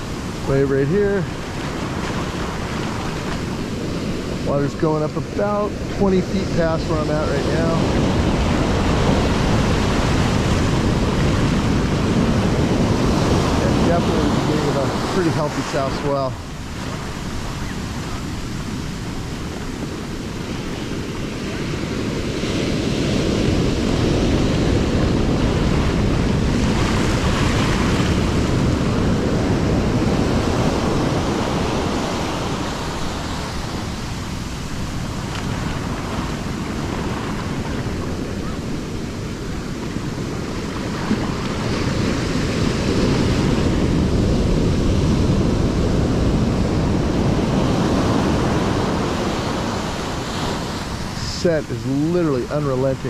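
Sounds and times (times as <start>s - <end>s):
whitewater surf rushing: 0.0s - 53.0s.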